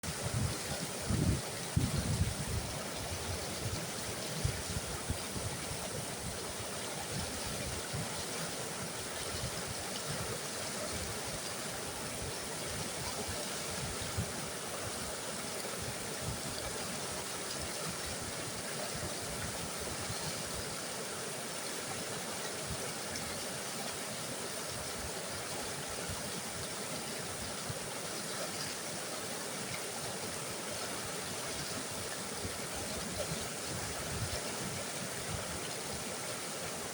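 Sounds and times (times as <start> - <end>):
river rushing: 0.0 - 36.9.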